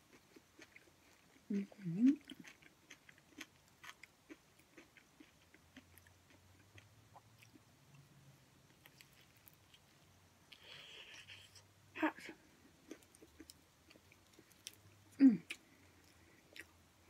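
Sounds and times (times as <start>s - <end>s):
crispy food chewing: 0.0s - 8.1s, 8.7s - 11.3s, 12.5s - 16.8s.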